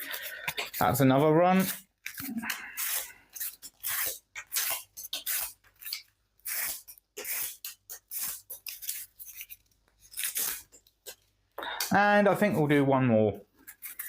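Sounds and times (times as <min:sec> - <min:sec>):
knife cutting cardboard: 0:00.0 - 0:11.2, 0:13.6 - 0:14.0.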